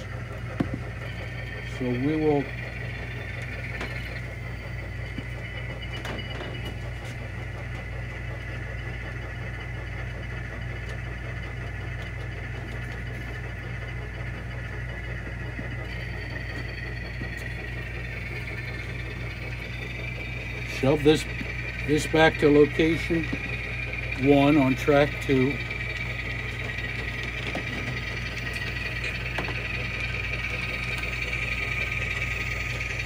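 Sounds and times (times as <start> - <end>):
model train hum and whine: 0.0 - 33.0.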